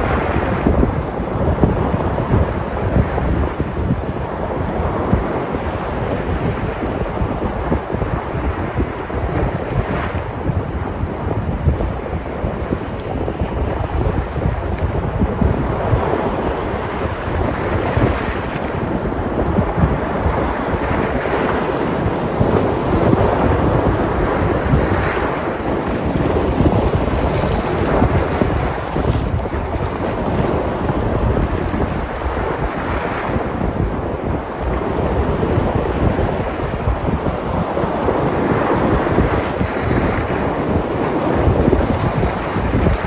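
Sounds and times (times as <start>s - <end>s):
waves breaking: 0.0s - 43.0s
wind buffeting microphone: 0.0s - 43.0s.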